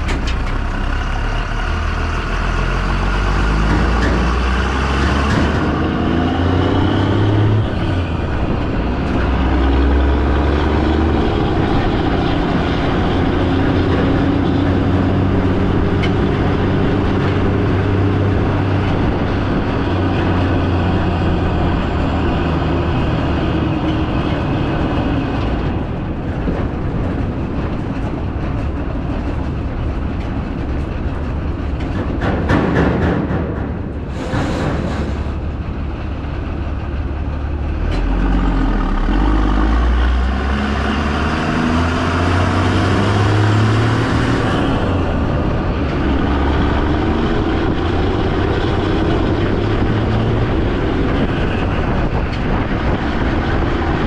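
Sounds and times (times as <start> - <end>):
heavy vehicle engine droning: 0.0 - 54.0.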